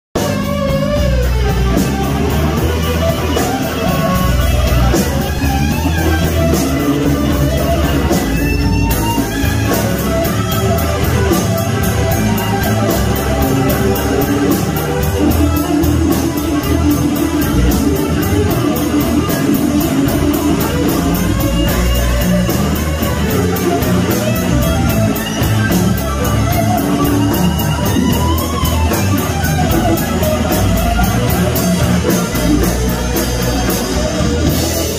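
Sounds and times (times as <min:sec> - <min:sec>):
drum kit with cymbals: 0:00.1 - 0:34.9
electric bass: 0:00.1 - 0:34.9
electric guitar: 0:00.2 - 0:34.9.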